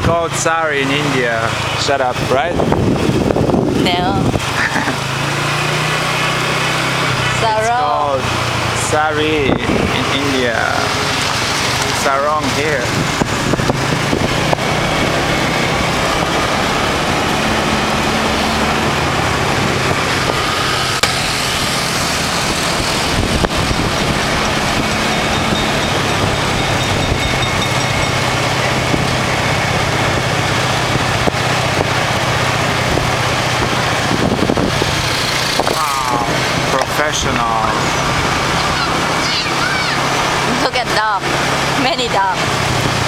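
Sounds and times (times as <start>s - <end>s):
wind and road noise: 0.0s - 43.0s
small motorbike engine running: 6.9s - 43.0s.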